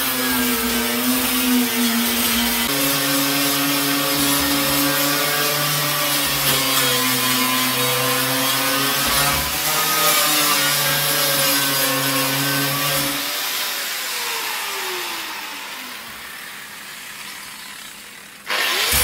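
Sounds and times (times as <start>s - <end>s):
angle grinder grinding metal: 0.0s - 19.0s.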